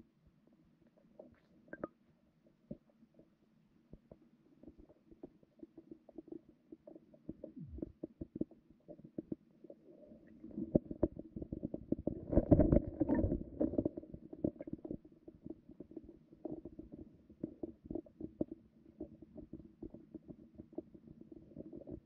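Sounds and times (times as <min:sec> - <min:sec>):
soft underwater clicks and knocks: 0:00.8 - 0:22.0.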